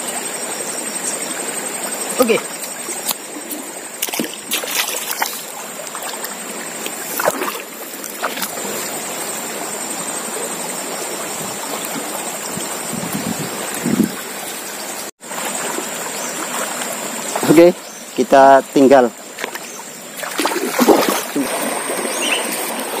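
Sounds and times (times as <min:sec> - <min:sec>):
river water rushing: 0:00.2 - 0:17.6, 0:19.2 - 0:23.0.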